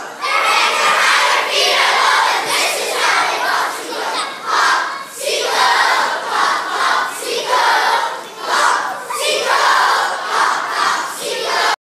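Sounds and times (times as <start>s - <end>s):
crowd of children shouting: 0.0s - 11.8s.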